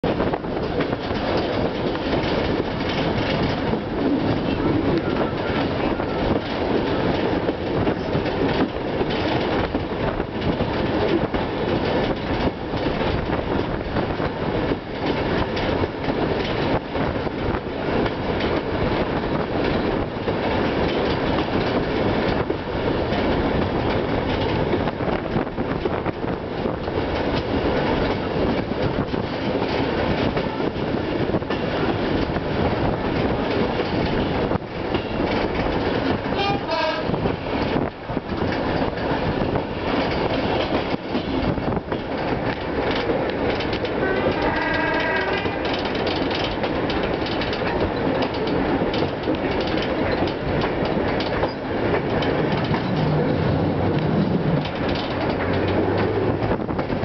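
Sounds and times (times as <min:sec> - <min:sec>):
train rumble: 0:00.0 - 0:57.0
wheels clattering on rails: 0:00.0 - 0:57.0.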